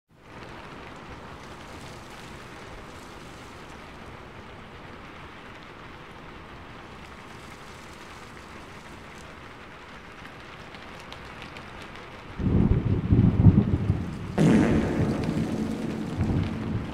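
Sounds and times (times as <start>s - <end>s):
steady rain falling: 0.1s - 16.9s.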